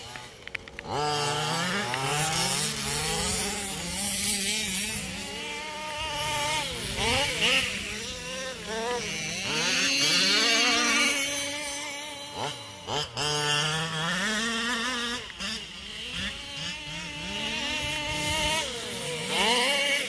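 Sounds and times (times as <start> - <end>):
small two-stroke engine revving: 0.0 - 20.0.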